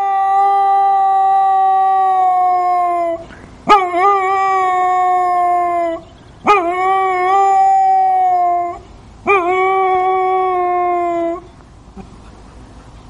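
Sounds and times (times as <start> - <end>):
dog howling: 0.0 - 11.5.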